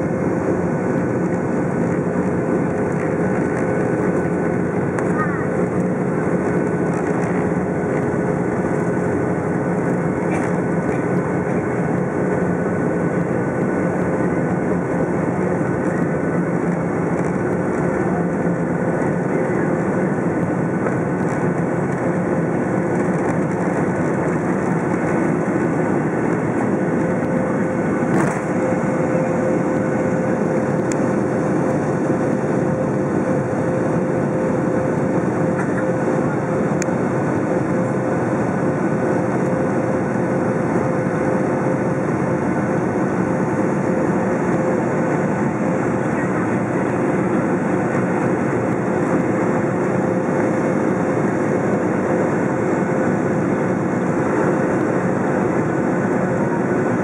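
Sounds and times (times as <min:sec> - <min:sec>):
jet engines idling rumble: 0:00.0 - 0:57.0.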